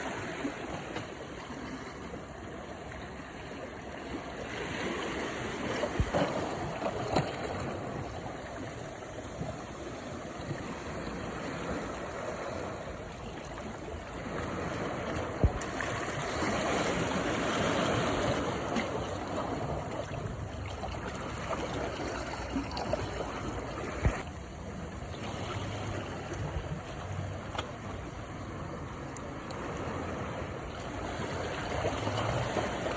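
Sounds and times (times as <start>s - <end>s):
waves washing onto shore: 0.0s - 32.9s.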